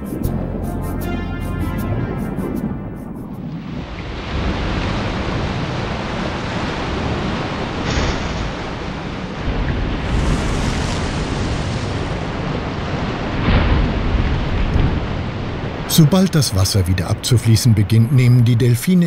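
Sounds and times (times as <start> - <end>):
water splash: 0.0 - 15.9
waves breaking: 1.0 - 19.0.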